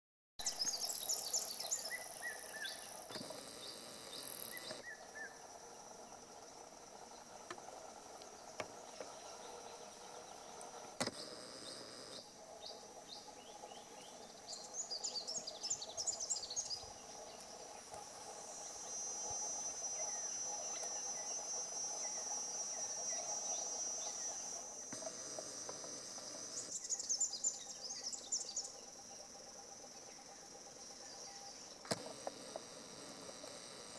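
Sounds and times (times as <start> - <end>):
insects chirping and droning: 0.4 - 33.9.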